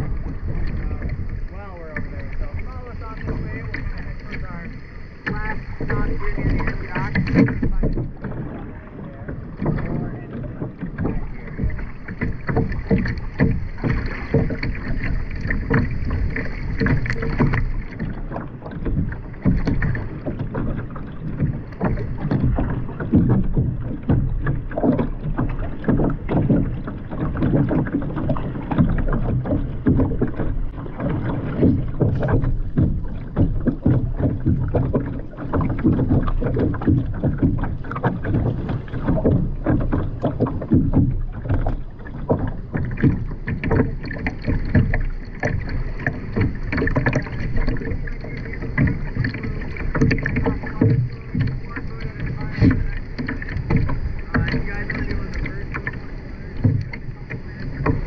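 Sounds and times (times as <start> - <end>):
paddle strokes splashing: 0.0 - 58.0
water sloshing against hull: 0.0 - 58.0.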